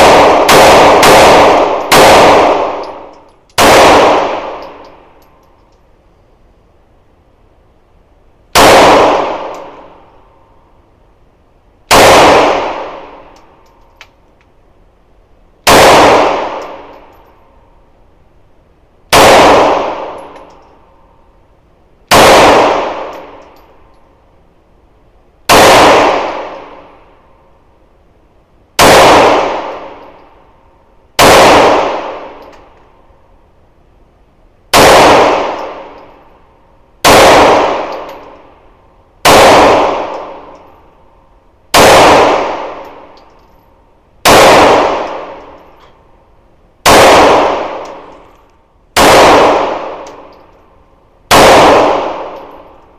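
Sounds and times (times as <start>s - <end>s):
pistol shots in indoor range: 0.0s - 5.6s, 8.4s - 10.8s, 11.8s - 14.2s, 15.6s - 17.8s, 19.0s - 21.4s, 22.0s - 24.4s, 25.2s - 27.8s, 28.7s - 33.4s, 34.6s - 52.9s.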